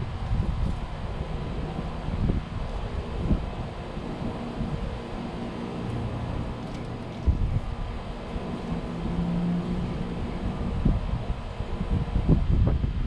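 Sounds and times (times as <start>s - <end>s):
faint steady hum: 0.0s - 13.0s
low rumble: 0.0s - 13.0s
wind gusting on microphone: 0.0s - 13.0s.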